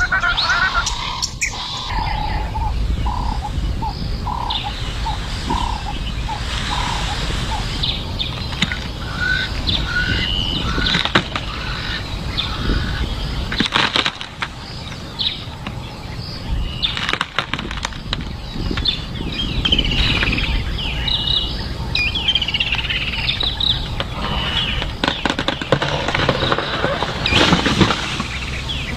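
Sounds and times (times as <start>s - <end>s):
birds chirping and calling: 0.0s - 28.9s
steady low rumble: 0.0s - 28.9s.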